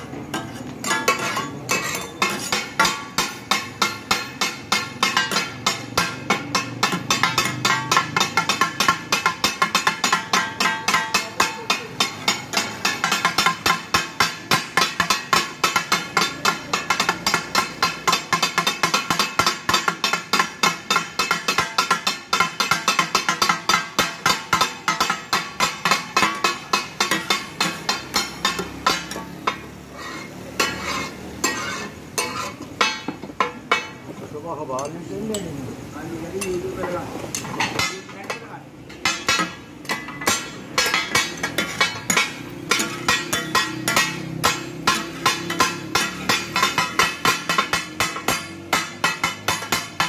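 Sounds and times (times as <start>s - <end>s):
spatulas clattering on steel griddle: 0.0s - 35.6s, 36.3s - 50.0s.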